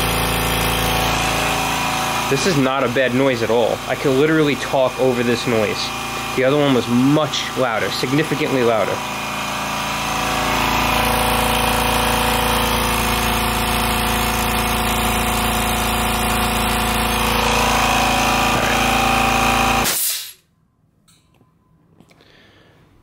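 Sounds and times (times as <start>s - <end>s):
air compressor motor hum: 0.0s - 20.4s.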